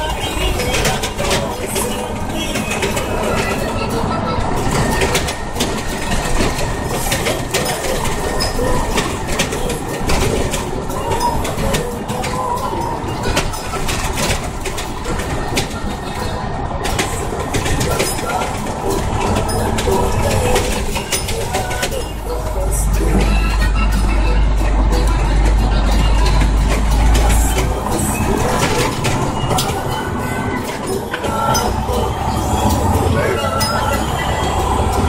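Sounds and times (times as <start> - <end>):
truck cab rattling and knocking: 0.0 - 35.0
truck engine drone: 0.0 - 35.0.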